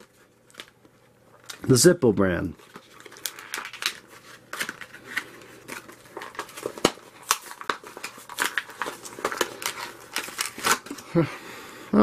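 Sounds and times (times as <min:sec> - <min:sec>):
packaging clicks and snaps: 0:00.0 - 0:01.6, 0:02.6 - 0:11.0
packaging crinkling and rustling: 0:00.0 - 0:11.2.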